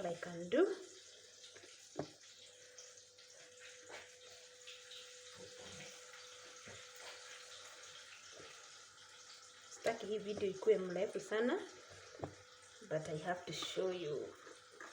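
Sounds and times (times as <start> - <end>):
chicken deep-frying in oil: 0.0 - 14.9.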